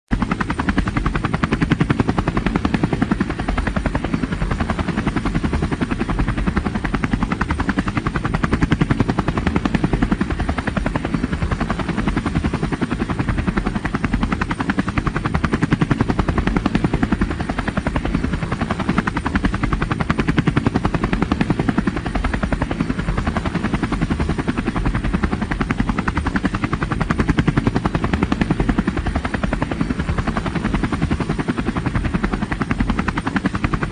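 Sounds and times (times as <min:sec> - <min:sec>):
helicopter engine noise: 0:00.1 - 0:33.9
helicopter rotor blades chopping: 0:00.1 - 0:33.9.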